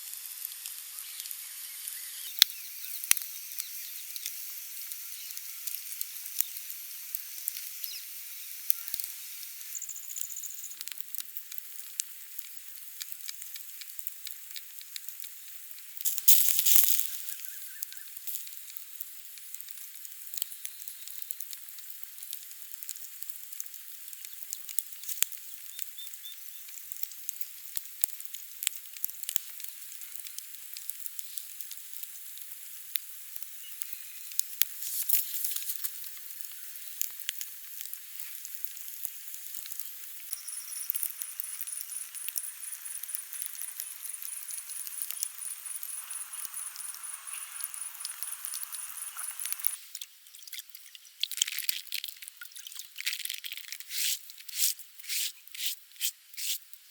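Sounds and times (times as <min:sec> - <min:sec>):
duck sizzling over fire: 0:00.0 - 0:56.9
wood fire crackling and popping: 0:02.3 - 0:56.8.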